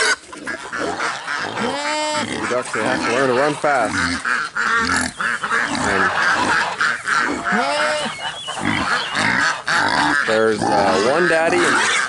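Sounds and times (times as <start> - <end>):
ducks quacking: 0.0 - 12.0
geese honking: 0.0 - 12.0.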